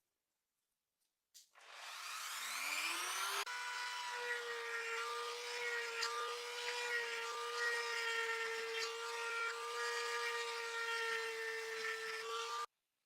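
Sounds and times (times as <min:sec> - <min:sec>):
power tool whining: 0:01.6 - 0:12.7.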